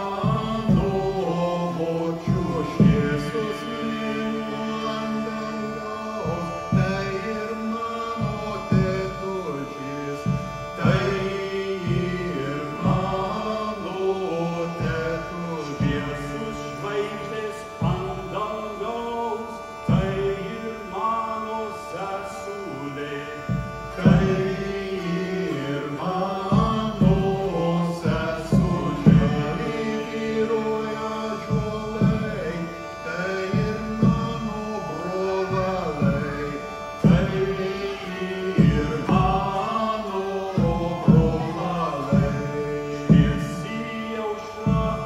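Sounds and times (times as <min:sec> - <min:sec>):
men singing folk song: 0:00.0 - 0:45.0
steady held drone: 0:00.0 - 0:45.0.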